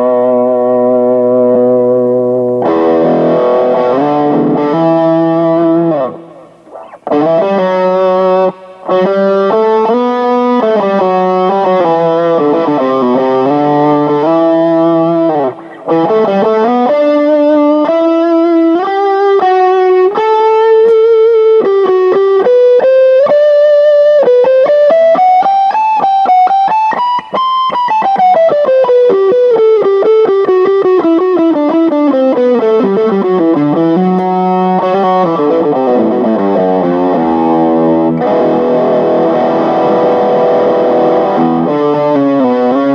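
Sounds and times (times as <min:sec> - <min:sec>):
electric guitar single-note runs: 0:00.0 - 0:42.9.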